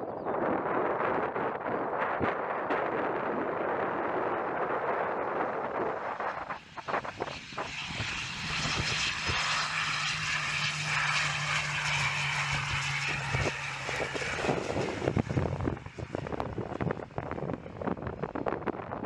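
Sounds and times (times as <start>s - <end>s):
turboprop plane propeller hum: 0.0s - 19.0s
wind buffeting microphone: 0.0s - 19.0s.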